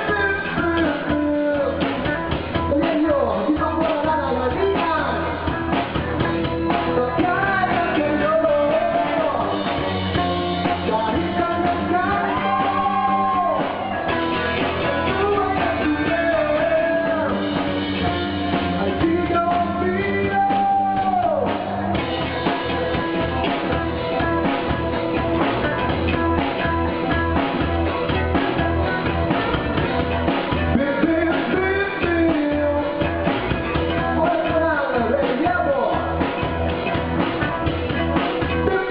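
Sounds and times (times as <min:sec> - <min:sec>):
drum kit beat: 0:00.0 - 0:38.9
lead singer: 0:00.0 - 0:38.9
upbeat rock song: 0:00.0 - 0:38.9.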